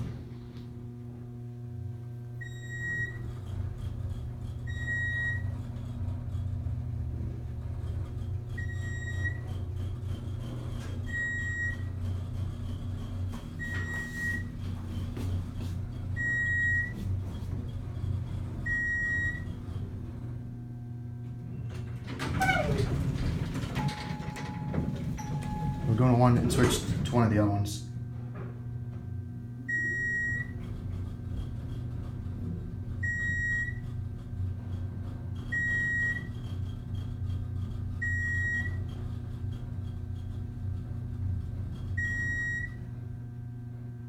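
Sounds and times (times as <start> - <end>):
elevator low hum: 0.0 - 44.0.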